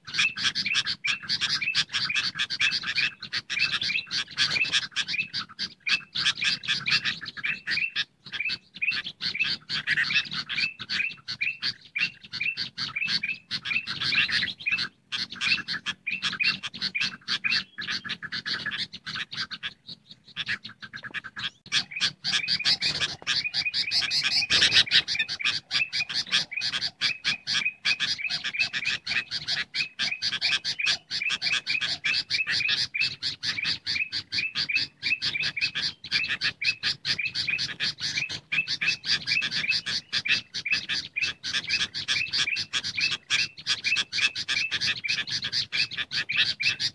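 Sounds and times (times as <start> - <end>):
bulbuls chattering: 0.0 - 46.9.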